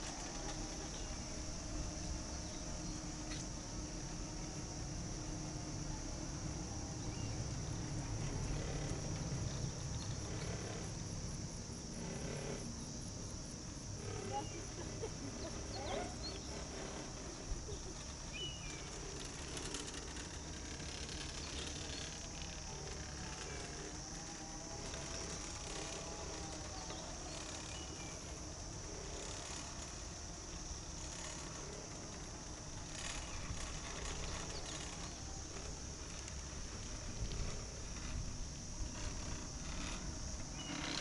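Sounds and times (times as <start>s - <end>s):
insect chorus: 0.0s - 41.0s
low rumble of wind and lift: 0.0s - 41.0s.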